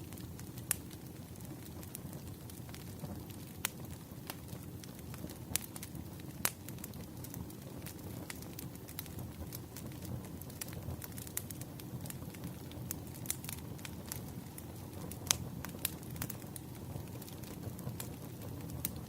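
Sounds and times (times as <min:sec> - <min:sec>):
campfire logs crackling and popping: 0:00.0 - 0:19.0
low rush of flames: 0:00.0 - 0:19.0.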